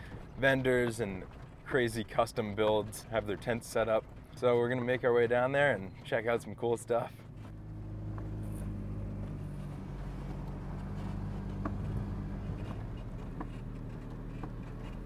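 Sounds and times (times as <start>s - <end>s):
truck engine drone: 0.0s - 15.0s
tyres rolling on sand: 0.0s - 15.0s.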